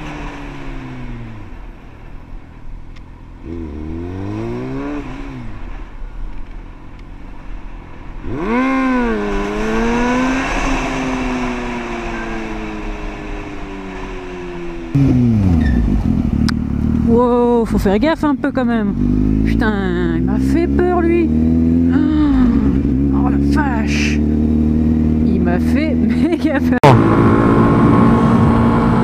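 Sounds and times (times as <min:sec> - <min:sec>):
motorcycle engine revving: 0:00.0 - 0:06.4, 0:07.5 - 0:29.0
background noise: 0:00.0 - 0:29.0.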